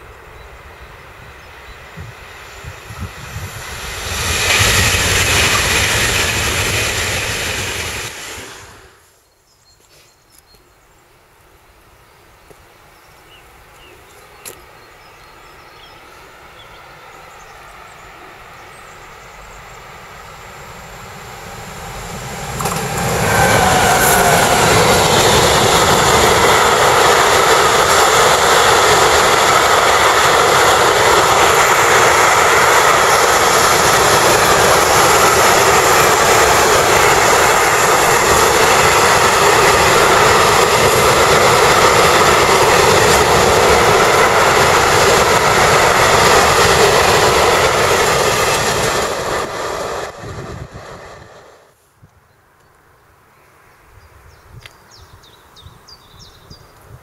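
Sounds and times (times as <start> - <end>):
freight train wheels on rails: 0.0 - 9.2, 12.4 - 51.8.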